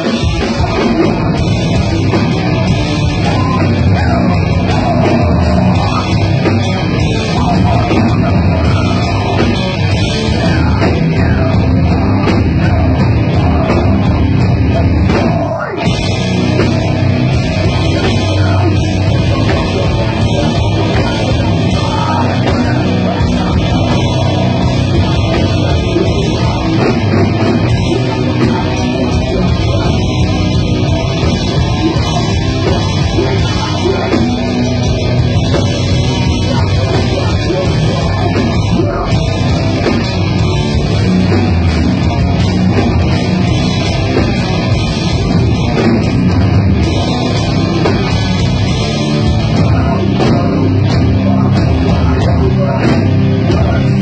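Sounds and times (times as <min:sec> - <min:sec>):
distorted electric guitars: 0:00.0 - 0:54.0
drum kit: 0:00.0 - 0:54.0.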